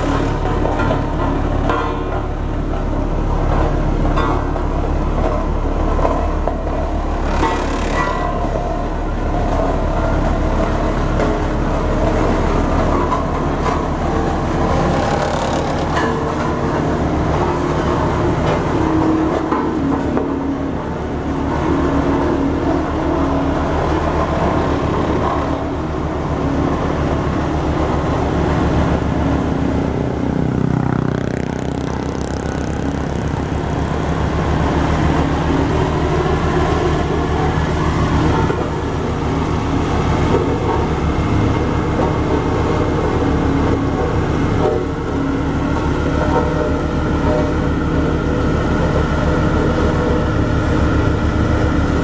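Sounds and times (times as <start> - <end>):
road roller diesel engine: 0.0 - 52.0.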